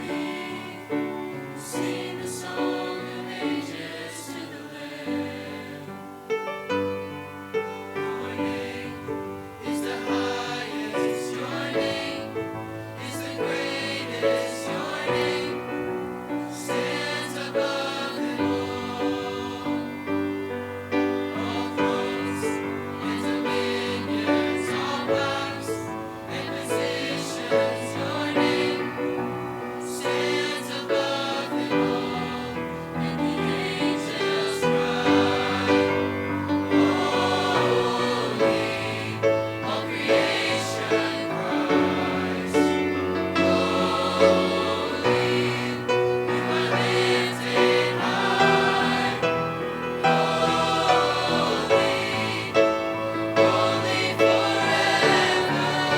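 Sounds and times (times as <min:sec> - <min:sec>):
choir singing gospel song: 0:00.0 - 0:55.9.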